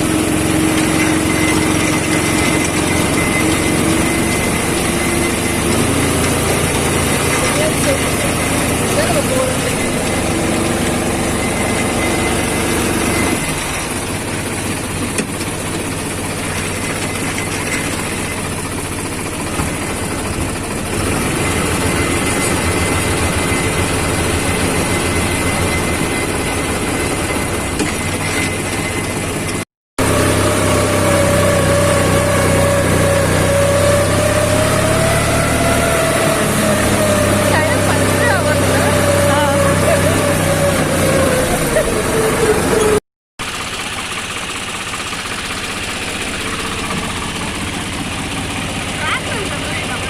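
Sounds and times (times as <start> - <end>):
steady whine: 0.0 - 43.0
tractor diesel engine running: 0.0 - 50.0.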